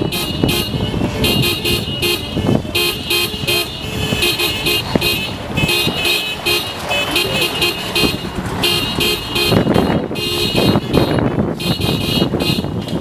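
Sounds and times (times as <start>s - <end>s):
car horn honking short toots: 0.0s - 13.0s.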